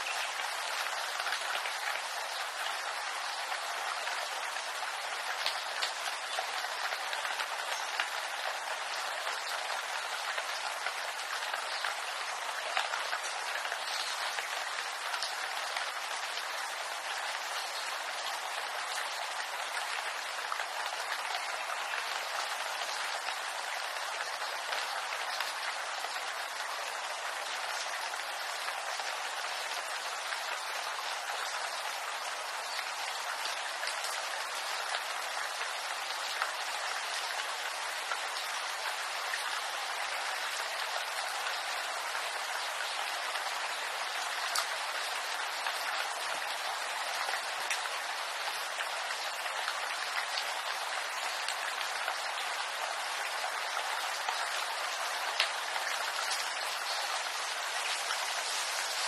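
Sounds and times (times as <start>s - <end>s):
rain pattering on foliage: 0.0s - 59.0s.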